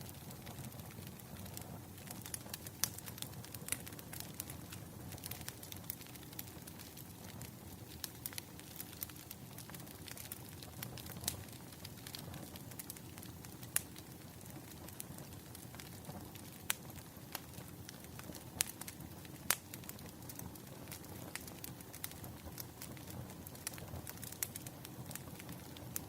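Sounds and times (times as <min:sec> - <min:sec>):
firewood crackling and popping: 0:00.0 - 0:26.0
low rumble of flame: 0:00.0 - 0:26.0.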